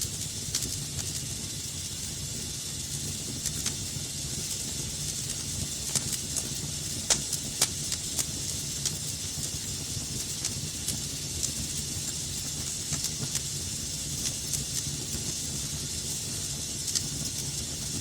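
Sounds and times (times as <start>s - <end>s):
fire crackles and pops: 0.0s - 18.0s
wood fire rumbling and hissing: 0.0s - 18.0s.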